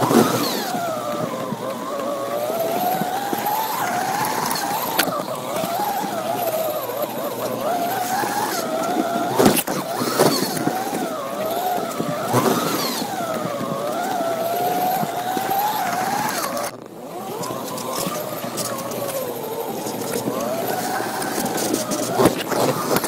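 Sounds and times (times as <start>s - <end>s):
slot car electric motor whining: 0.0s - 23.0s.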